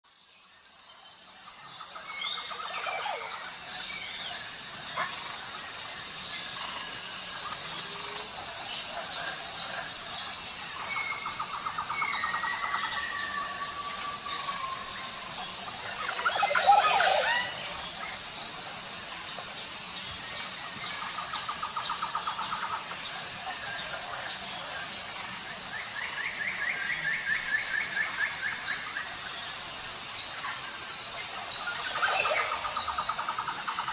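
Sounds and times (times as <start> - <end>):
birds calling and trilling: 0.1 - 33.9.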